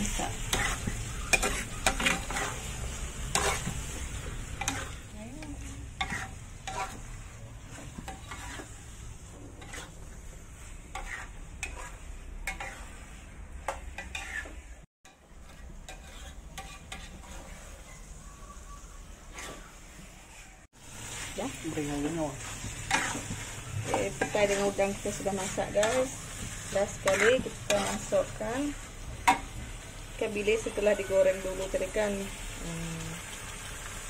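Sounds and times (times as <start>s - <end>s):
metal spatula scraping wok: 0.0s - 32.2s
frying sizzle: 0.0s - 34.0s.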